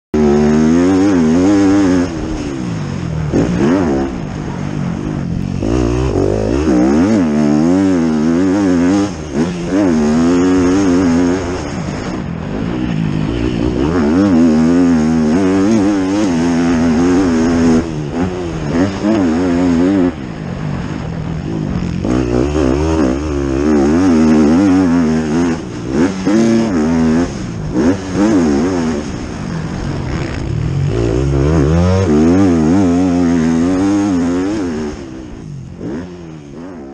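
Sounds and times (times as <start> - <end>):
dirt bike engine revving: 0.2 - 36.9.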